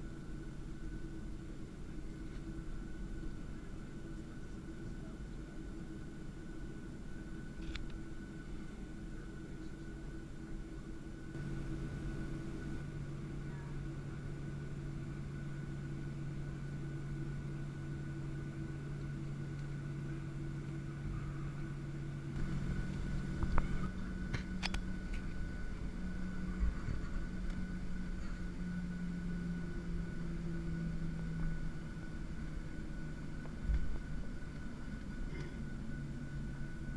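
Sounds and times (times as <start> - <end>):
airplane cabin drone: 0.0 - 36.9.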